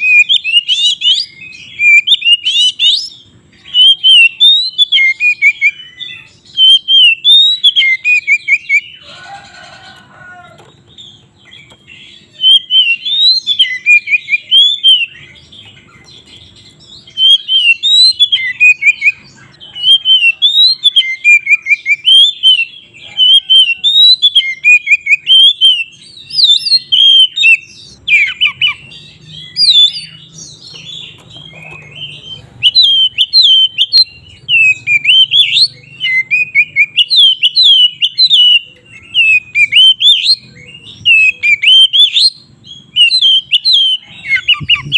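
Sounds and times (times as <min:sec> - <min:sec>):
bird singing whistled phrases: 0:00.0 - 0:09.0, 0:11.6 - 0:44.9
harsh grating bird call: 0:00.0 - 0:44.9.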